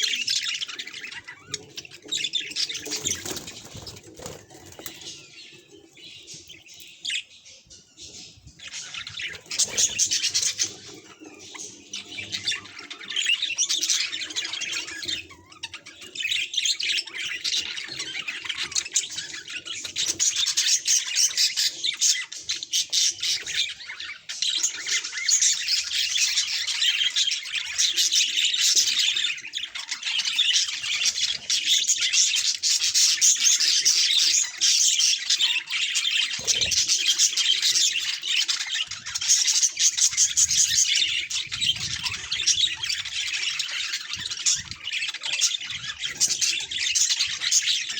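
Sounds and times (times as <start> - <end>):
budgerigars chattering and warbling: 0.0 - 47.9.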